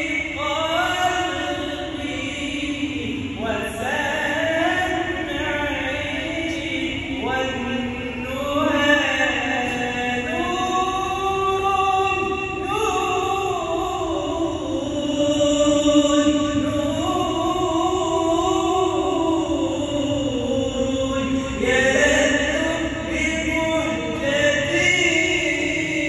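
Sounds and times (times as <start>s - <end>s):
man chanting devotional song: 0.0s - 26.0s.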